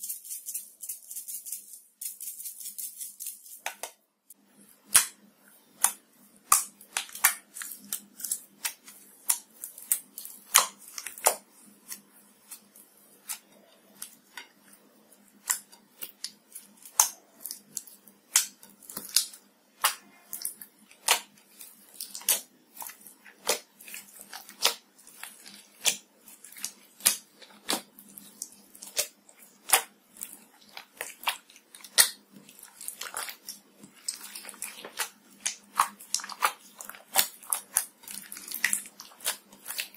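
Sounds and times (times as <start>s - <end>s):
slime squishing with wet pops: 4.8s - 39.9s.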